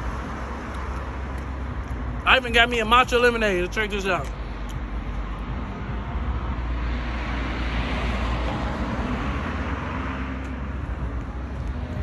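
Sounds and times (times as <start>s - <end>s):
passing cars rumble and hiss: 0.0s - 12.0s.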